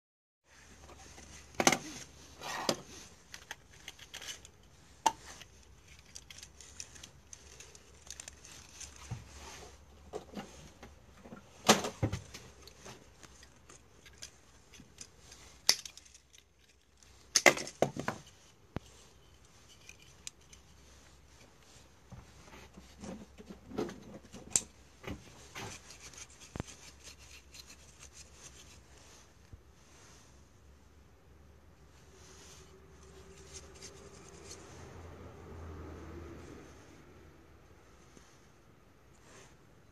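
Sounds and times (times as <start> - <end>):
rubbing and rustling: 0.5 - 35.2.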